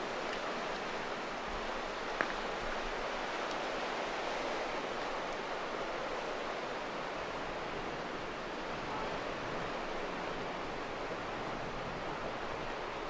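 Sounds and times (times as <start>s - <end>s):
sea surf washing ashore: 0.0s - 13.0s.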